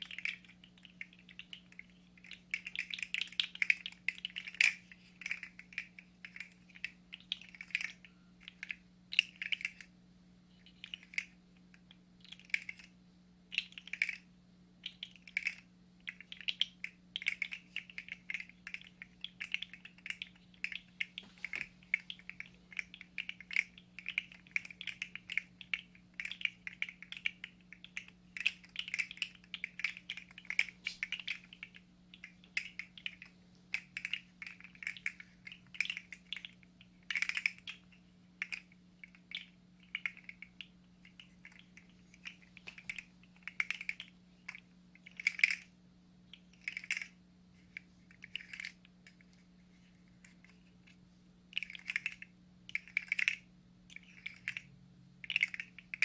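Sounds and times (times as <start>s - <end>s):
plastic segments clicking and rattling: 0.0s - 9.9s, 10.6s - 12.9s, 13.5s - 14.2s, 14.8s - 45.7s, 46.4s - 49.4s, 50.1s - 56.0s
faint low hum: 0.0s - 56.0s.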